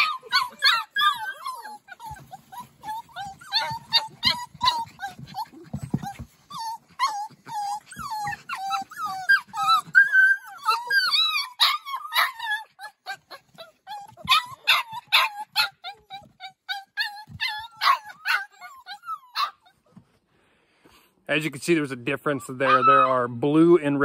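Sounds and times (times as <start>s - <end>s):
puppies whining and yipping: 0.0s - 20.3s, 22.0s - 24.0s.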